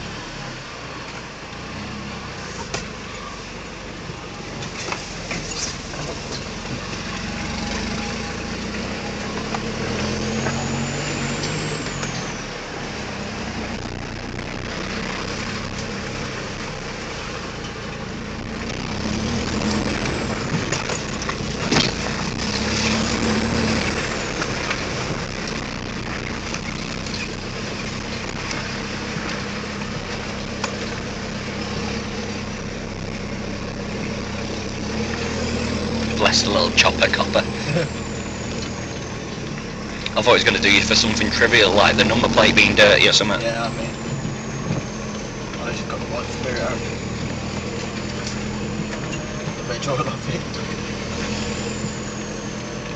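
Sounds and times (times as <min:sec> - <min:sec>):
rumble and rattle on rough track: 0:00.0 - 0:52.9
truck engine running: 0:00.0 - 0:52.9.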